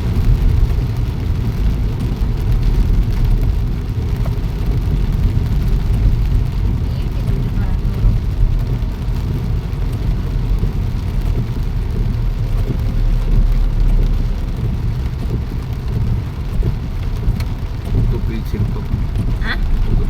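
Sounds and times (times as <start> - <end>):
rain: 0.0 - 20.0
vehicle rumbling while moving: 0.0 - 20.0.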